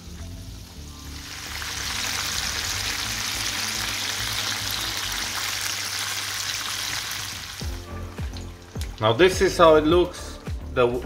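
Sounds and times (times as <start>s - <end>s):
chicken deep-frying in oil: 0.0s - 9.7s.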